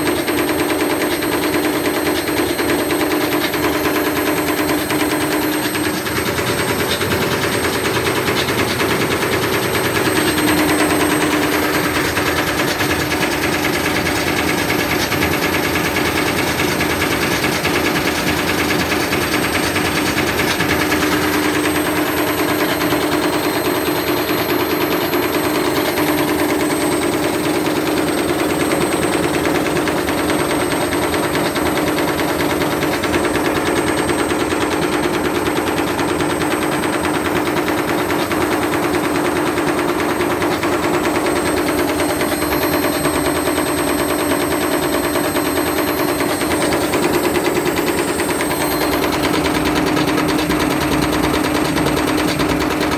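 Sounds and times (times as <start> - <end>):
motor hum: 0.0 - 52.9.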